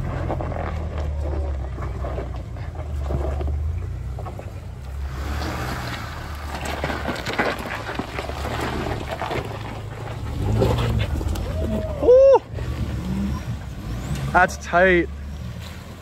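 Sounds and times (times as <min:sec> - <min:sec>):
pickup truck engine running low: 0:00.0 - 0:16.0
tyres crunching over gravel: 0:00.0 - 0:16.0.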